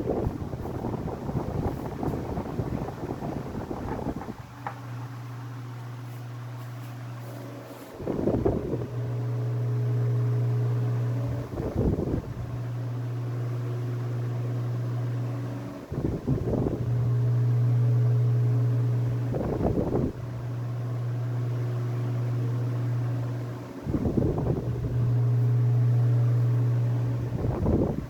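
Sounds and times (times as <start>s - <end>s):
electric fan motor humming: 0.0s - 28.0s.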